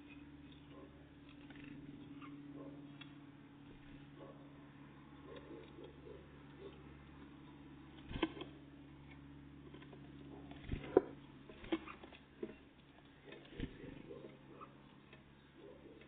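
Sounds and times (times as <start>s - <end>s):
birds pecking at a feeder: 0.0s - 16.0s
steady low hum: 0.0s - 16.0s.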